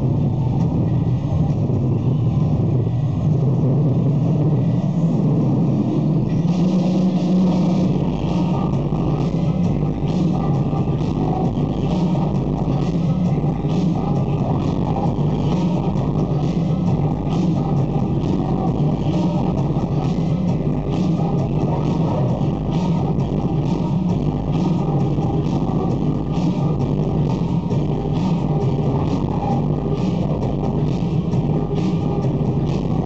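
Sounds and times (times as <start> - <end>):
electronic dance music: 0.0 - 33.0.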